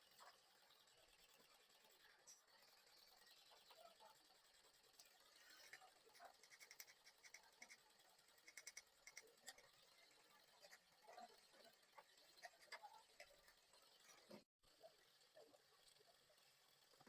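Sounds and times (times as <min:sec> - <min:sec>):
faint irregular clicks: 0:00.0 - 0:14.4.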